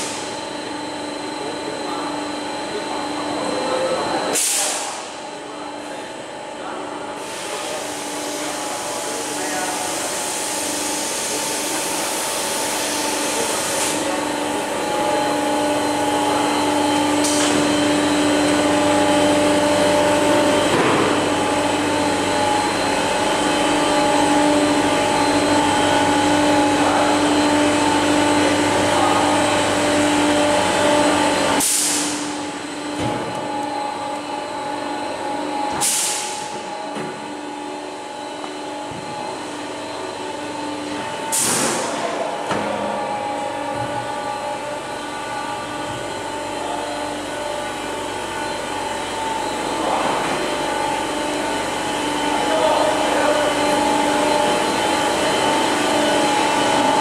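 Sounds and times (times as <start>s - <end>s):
machinery humming: 0.0s - 57.0s.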